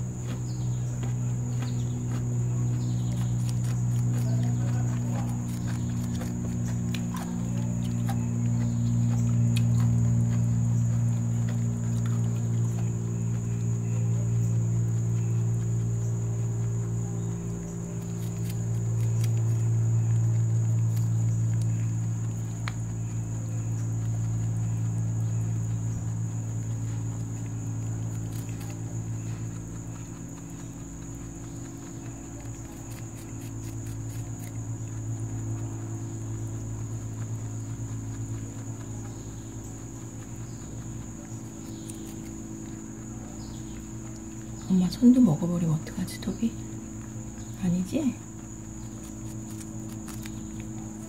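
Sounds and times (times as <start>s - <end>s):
high insect drone: 0.0s - 51.0s
steady low hum: 0.0s - 51.0s.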